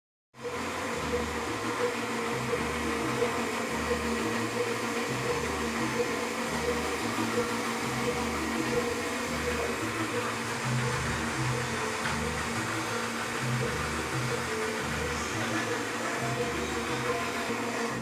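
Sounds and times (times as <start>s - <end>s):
background music with bass line: 0.4s - 18.0s.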